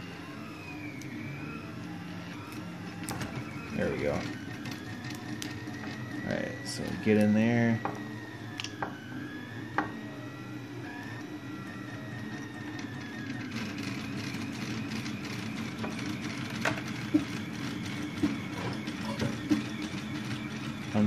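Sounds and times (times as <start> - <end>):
printer motor hum and whine: 0.0 - 21.0.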